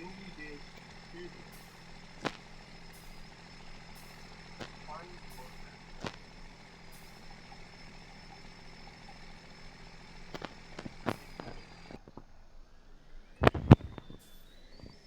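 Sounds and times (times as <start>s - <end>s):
sharp clicks: 0.0s - 12.3s, 13.4s - 15.0s
vehicle engine humming: 0.0s - 15.0s.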